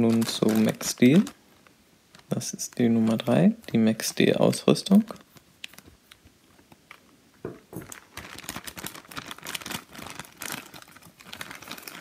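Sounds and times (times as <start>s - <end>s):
plastic bag crinkling: 0.0s - 6.0s, 6.9s - 12.0s.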